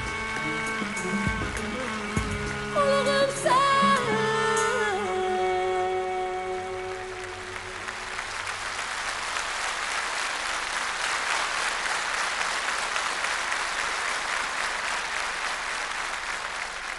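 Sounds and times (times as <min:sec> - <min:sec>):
audience applauding: 0:00.0 - 0:04.1, 0:06.2 - 0:16.9.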